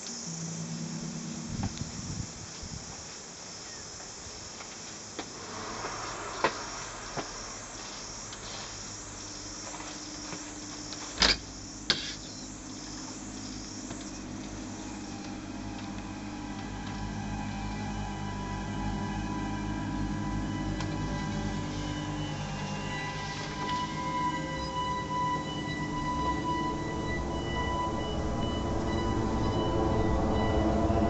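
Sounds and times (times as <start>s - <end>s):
low hum: 0.0s - 4.4s, 5.0s - 31.0s
insects chirping: 0.0s - 31.0s.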